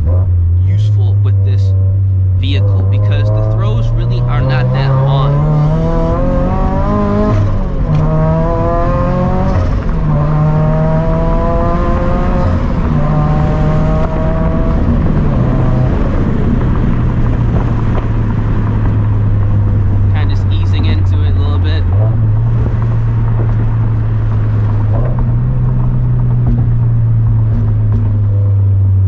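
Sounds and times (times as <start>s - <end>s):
car engine accelerating through gears: 0.0s - 29.0s.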